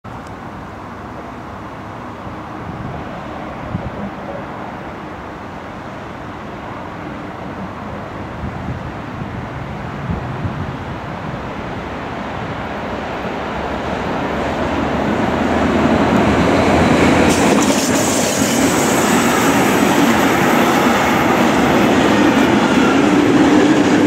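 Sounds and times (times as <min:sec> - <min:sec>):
freight train rumble: 0:00.1 - 0:24.0.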